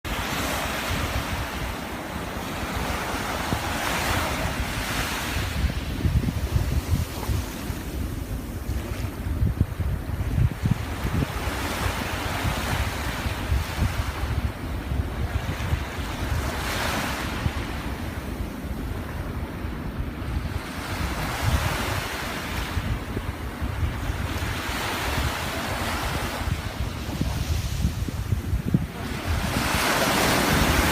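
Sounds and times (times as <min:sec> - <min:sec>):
ocean surf breaking: 0:00.1 - 0:30.9
wind buffeting microphone: 0:00.1 - 0:30.9.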